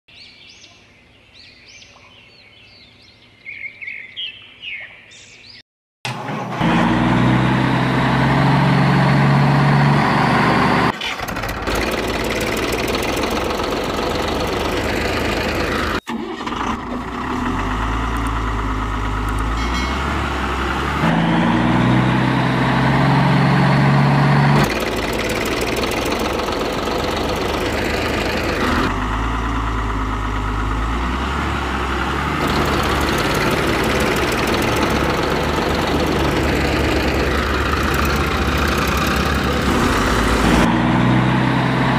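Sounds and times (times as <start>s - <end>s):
engine revving sound effect: 6.1s - 29.9s, 30.5s - 41.9s.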